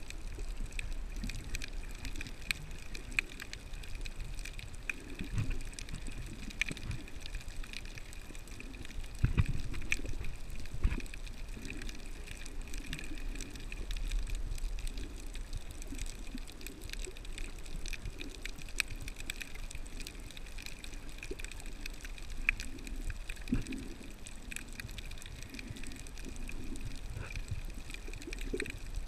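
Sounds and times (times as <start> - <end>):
muffled underwater water rumble: 0.0 - 29.0
sharp clicks and crackles: 0.0 - 29.0.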